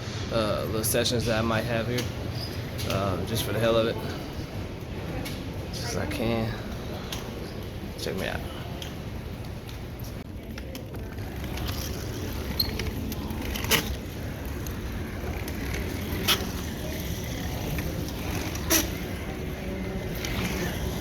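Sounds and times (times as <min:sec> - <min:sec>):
skate wheels rumbling on floor: 0:01.1 - 0:21.0.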